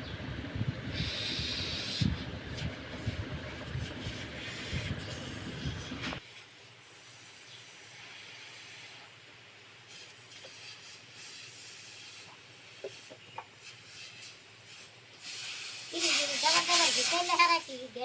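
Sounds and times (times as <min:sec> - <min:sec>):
gas hissing through tube: 0:00.8 - 0:09.2, 0:09.9 - 0:17.8.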